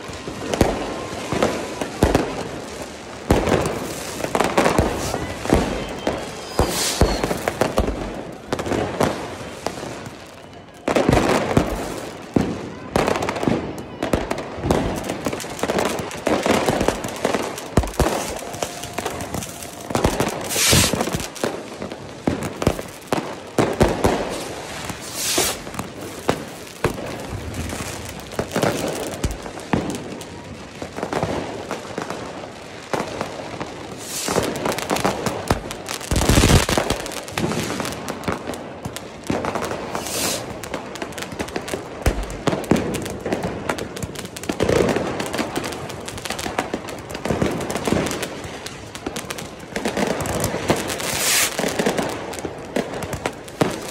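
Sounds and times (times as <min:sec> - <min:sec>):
firecrackers crackling: 0:00.0 - 0:53.9
loud firework booms: 0:03.2 - 0:10.2, 0:10.8 - 0:48.6.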